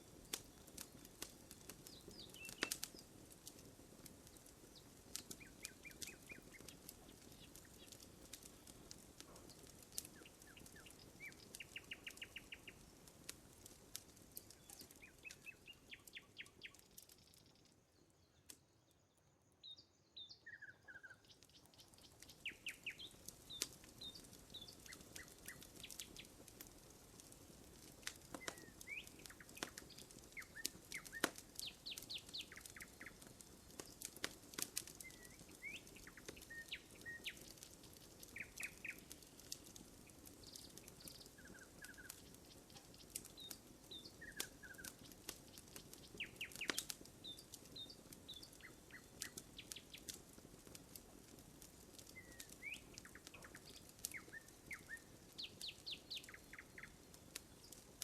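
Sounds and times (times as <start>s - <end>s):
campfire crackling and popping: 0.0s - 58.0s
songbirds chirping: 0.0s - 58.0s.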